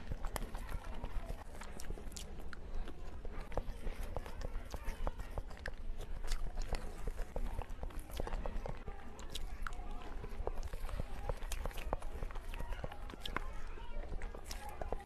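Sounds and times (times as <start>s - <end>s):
mouth smacks and chewing: 0.0s - 15.0s.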